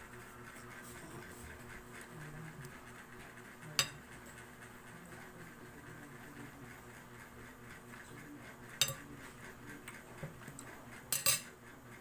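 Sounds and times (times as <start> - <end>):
faint eating noises: 0.1 - 12.0.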